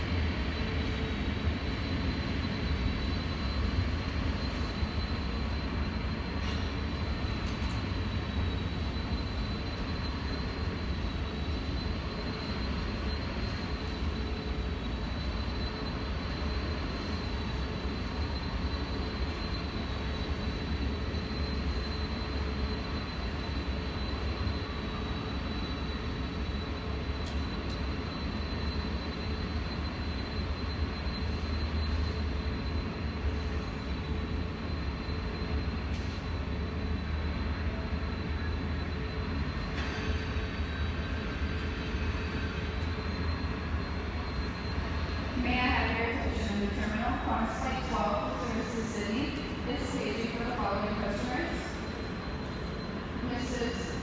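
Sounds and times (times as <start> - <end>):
faint high whine: 0.1 - 54.0.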